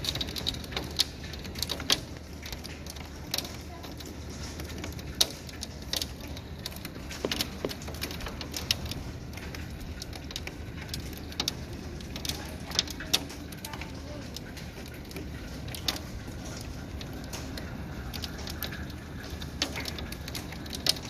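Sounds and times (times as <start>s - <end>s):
hailstones striking hard surfaces: 0.0s - 21.0s.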